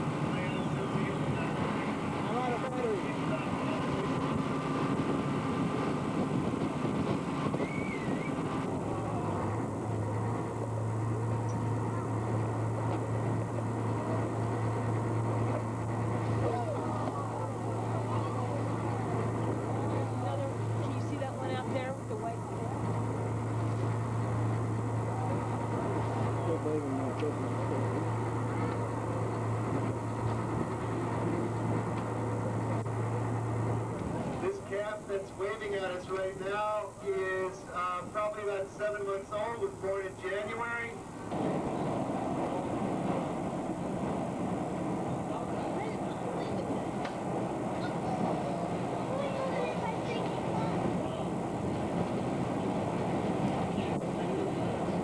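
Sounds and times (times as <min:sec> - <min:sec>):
boat engine humming: 0:00.0 - 0:55.0
wind and sea rushing: 0:00.0 - 0:55.0.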